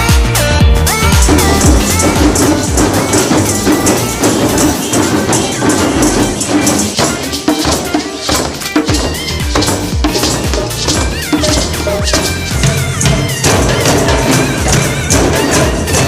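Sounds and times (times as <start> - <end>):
percussion music with driving beat: 0.0 - 16.0
tambourine jingling: 0.9 - 16.0.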